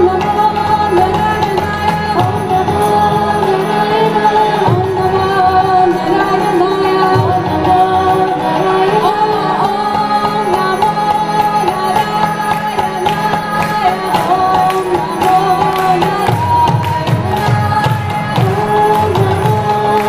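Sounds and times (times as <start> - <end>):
harmonium drone: 0.0 - 20.0
woman singing a chant: 0.0 - 20.0.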